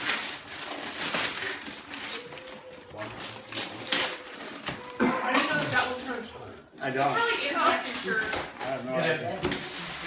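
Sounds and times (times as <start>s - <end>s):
gift packaging rustling and crinkling: 0.0s - 10.0s.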